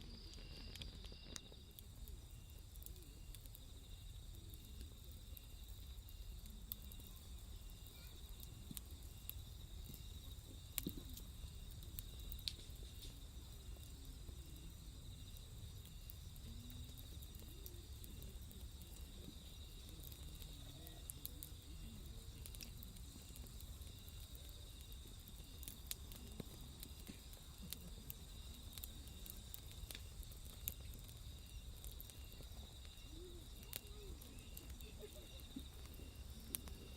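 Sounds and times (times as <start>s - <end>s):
crickets trilling: 0.0s - 36.9s
wood fire crackling: 0.0s - 36.9s.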